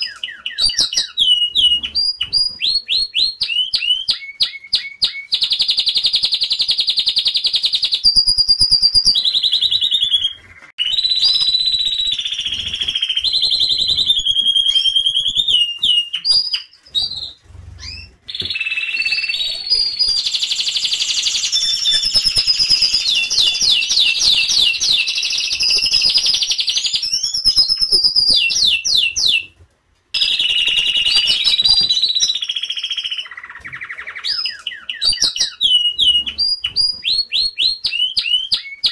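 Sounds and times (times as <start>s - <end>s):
canaries singing: 0.0s - 38.9s.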